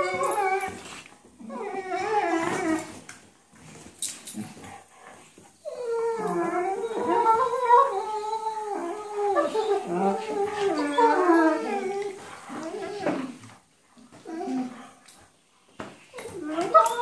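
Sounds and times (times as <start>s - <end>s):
dogs whining while play-fighting: 0.0s - 17.0s.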